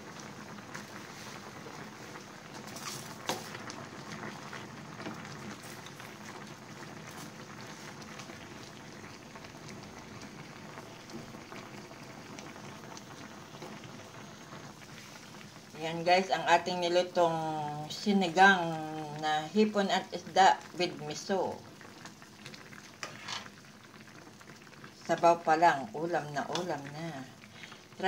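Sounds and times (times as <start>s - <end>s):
broth bubbling: 0.0s - 28.0s.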